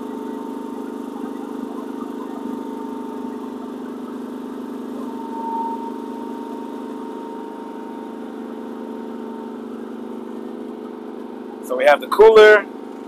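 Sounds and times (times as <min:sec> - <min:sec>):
generator running: 0:00.0 - 0:13.0
high-pitched whine: 0:00.0 - 0:13.0.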